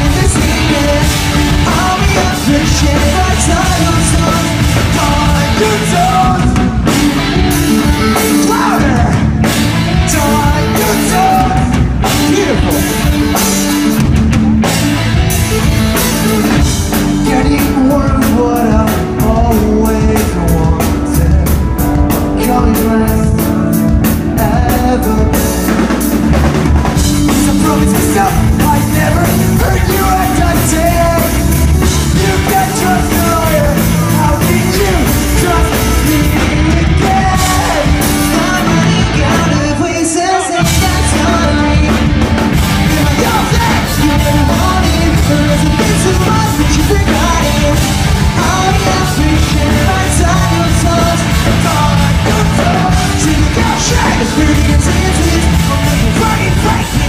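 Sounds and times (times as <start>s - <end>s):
bass guitar: 0.0s - 57.0s
drum kit: 0.0s - 57.0s
electric guitars: 0.0s - 57.0s
lead singer singing: 0.0s - 57.0s.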